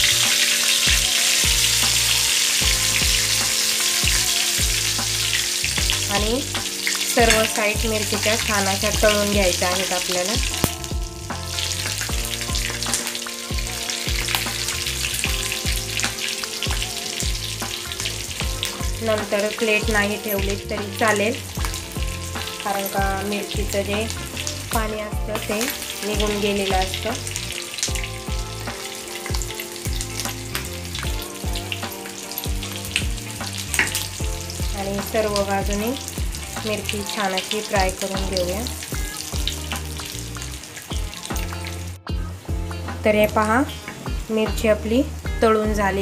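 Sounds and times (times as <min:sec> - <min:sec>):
background music with steady beat: 0:00.0 - 0:46.0
peppers sizzling in hot oil: 0:00.0 - 0:46.0.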